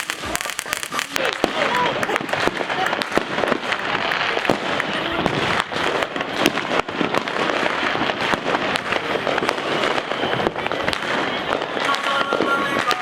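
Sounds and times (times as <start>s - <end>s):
firecrackers crackling: 0.0s - 13.0s
fireworks banging: 0.0s - 13.0s.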